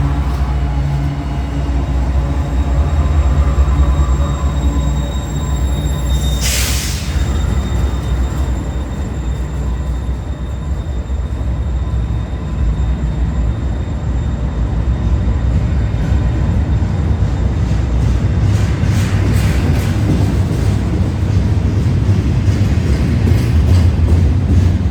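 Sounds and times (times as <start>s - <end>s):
train passing rumble: 0.0s - 24.9s.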